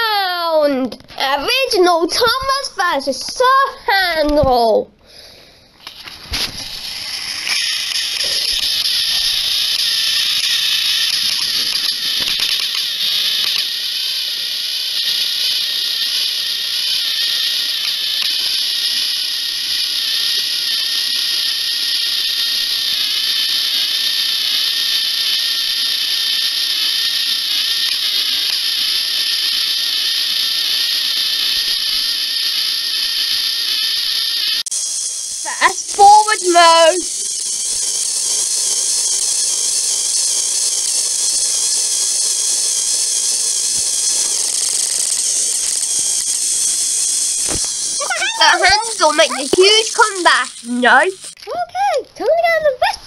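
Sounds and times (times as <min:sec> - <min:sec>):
toy train motors whirring: 0:00.0 - 0:53.0.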